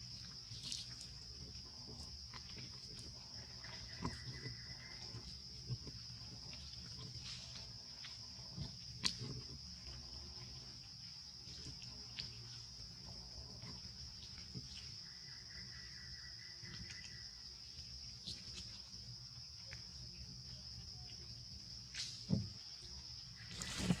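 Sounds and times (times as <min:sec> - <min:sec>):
insect chorus droning: 0:00.0 - 0:24.0.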